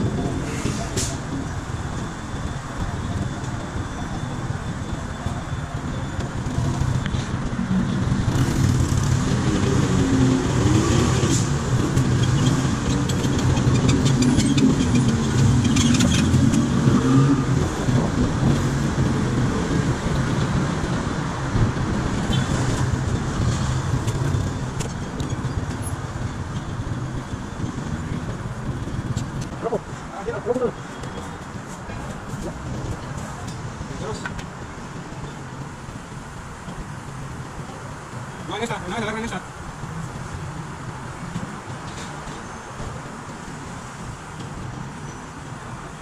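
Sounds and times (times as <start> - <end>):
surrounding traffic noise: 0.0 - 46.0.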